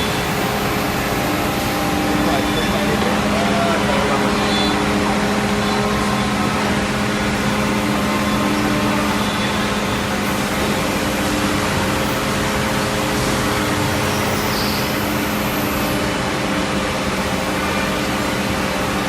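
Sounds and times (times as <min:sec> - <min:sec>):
woodworking machinery humming: 0:00.0 - 0:19.0.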